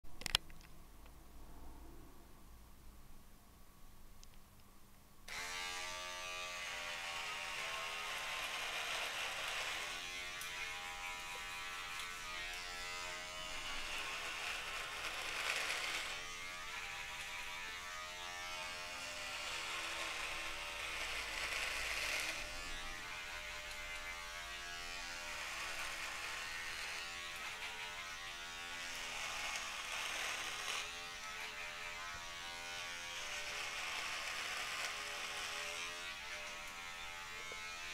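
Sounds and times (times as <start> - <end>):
electric beard trimmer buzzing: 5.3 - 37.9.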